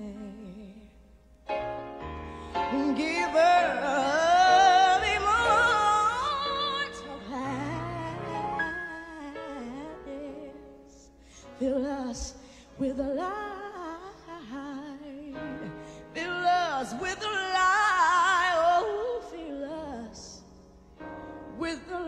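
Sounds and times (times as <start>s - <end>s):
piano accompaniment: 1.5s - 22.0s
woman singing gospel: 2.6s - 11.0s, 11.6s - 20.5s, 21.5s - 22.0s.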